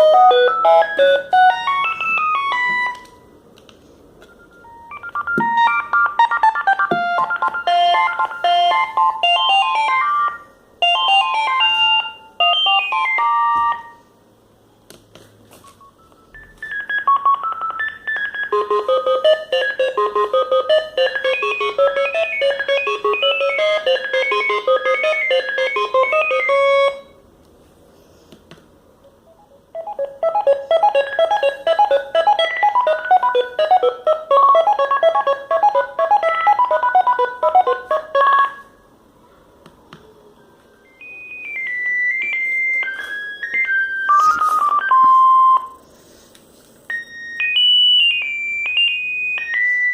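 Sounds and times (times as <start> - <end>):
mobile phone ringtone melodies: 0.0 - 3.2, 4.2 - 14.1, 15.8 - 27.2, 29.3 - 38.8, 40.8 - 45.8, 46.9 - 49.9.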